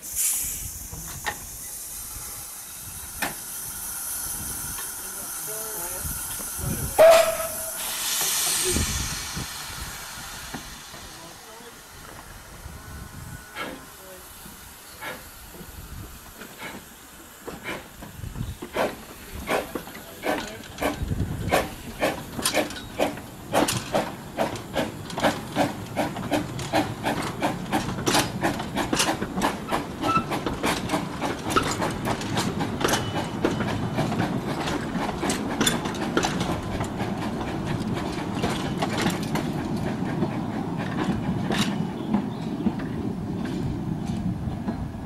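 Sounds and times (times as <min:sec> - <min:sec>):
steam locomotive exhaust chuffs: 0:00.0 - 0:44.4
train wheels rattling on rails: 0:00.0 - 0:45.0.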